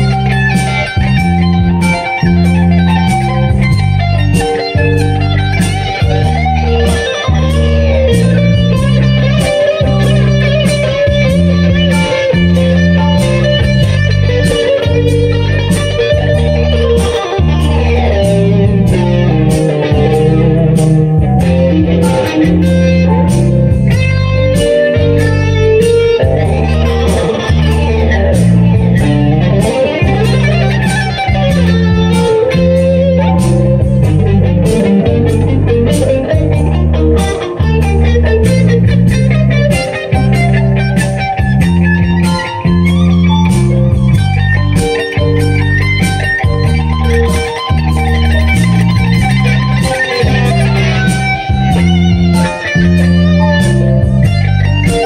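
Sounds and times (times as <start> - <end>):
electric guitar lead licks: 0.0 - 55.0
swing ballad backing track: 0.0 - 55.0.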